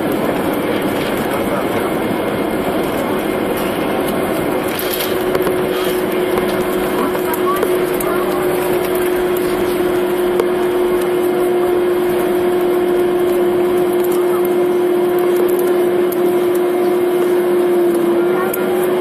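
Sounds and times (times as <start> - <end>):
jet engines rushing with steady tone: 0.0 - 19.0.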